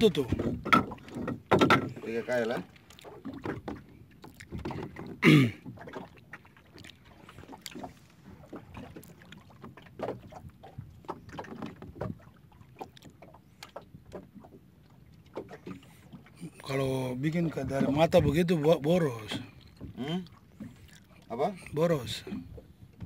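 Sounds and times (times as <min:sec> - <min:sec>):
water slapping against hull: 0:00.0 - 0:23.0.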